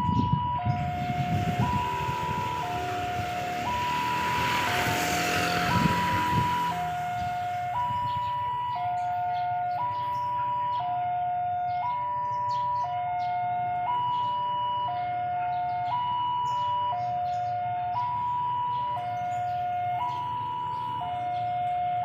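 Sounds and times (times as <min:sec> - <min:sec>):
two-tone warning siren: 0:00.0 - 0:22.0.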